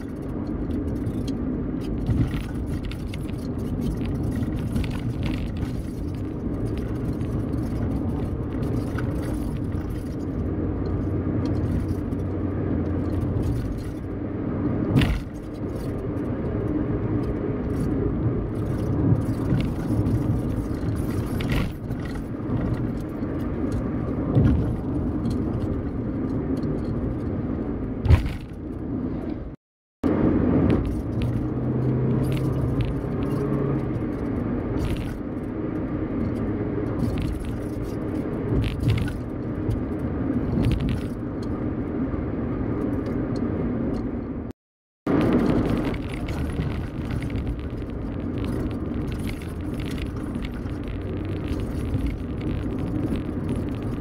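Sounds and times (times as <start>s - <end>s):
knocks and rattles over bumps: 0.0s - 41.8s, 45.1s - 54.0s
tyre and engine rumble: 0.0s - 54.0s.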